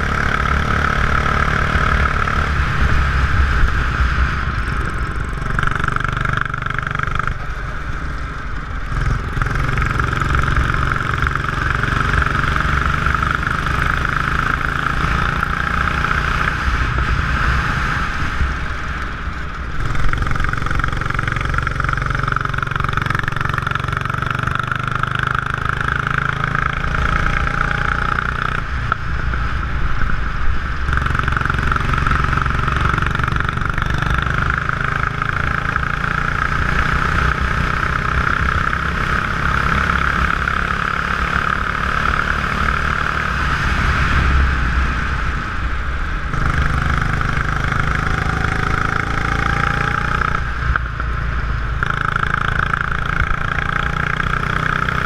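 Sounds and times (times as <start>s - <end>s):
go-kart engine running hard: 0.0s - 55.0s.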